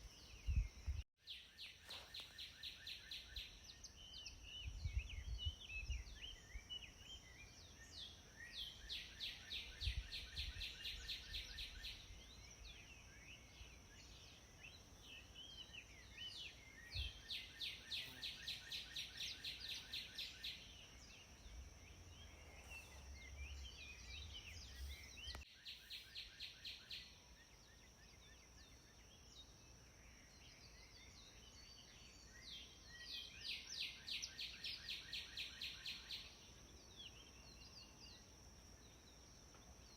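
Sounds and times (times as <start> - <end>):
soft bird chirps: 0.0 - 39.9.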